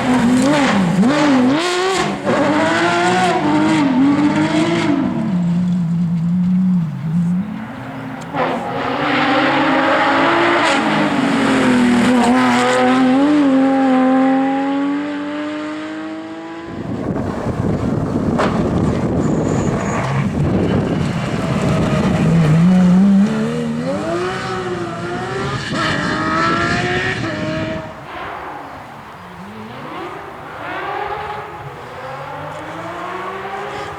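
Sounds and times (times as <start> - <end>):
rally car engine at high revs: 0.0 - 28.6, 29.4 - 33.9.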